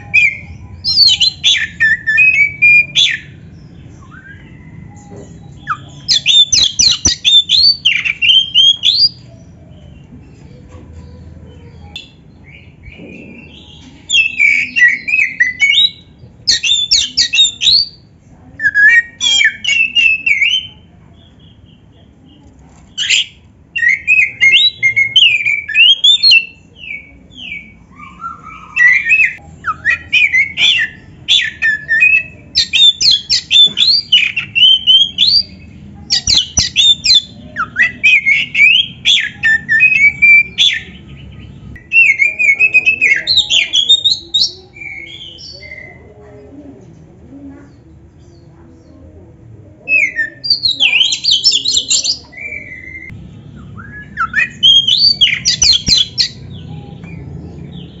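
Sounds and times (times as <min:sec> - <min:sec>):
bird singing rapid chirps: 0:00.0 - 0:10.1, 0:11.6 - 0:22.0, 0:22.9 - 0:46.0, 0:49.9 - 0:58.0.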